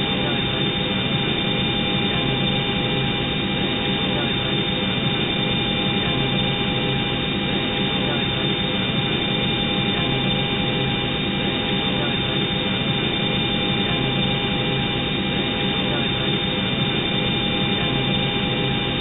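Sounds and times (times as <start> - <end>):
constant tones: 0.0 - 19.0.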